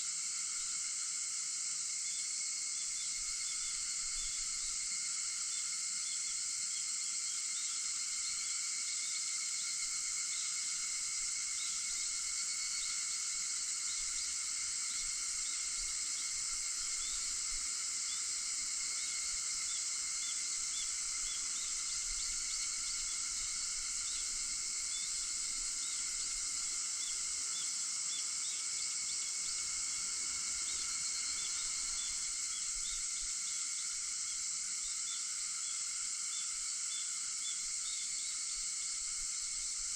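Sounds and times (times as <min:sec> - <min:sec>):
cicadas singing: 0:00.0 - 0:39.9.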